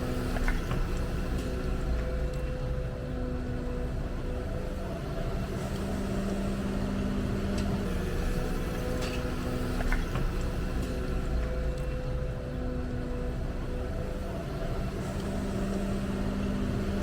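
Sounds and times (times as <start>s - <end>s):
excavator engine and hydraulics: 0.0s - 17.0s.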